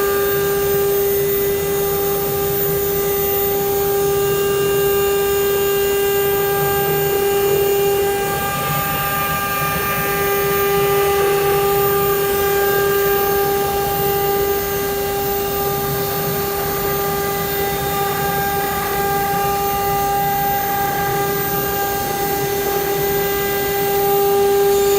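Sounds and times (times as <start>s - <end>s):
router spindle whining: 0.0s - 24.9s.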